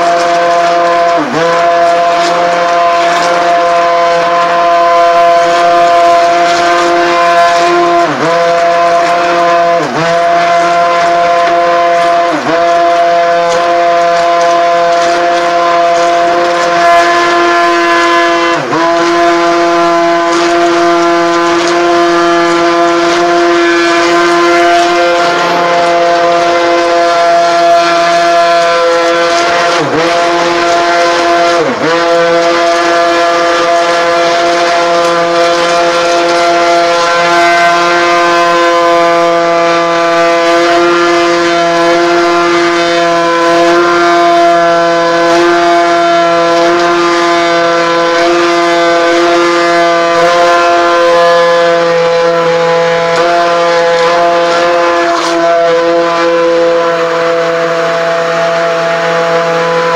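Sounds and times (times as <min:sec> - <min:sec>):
stick blender motor whine: 0:00.0 - 0:59.9.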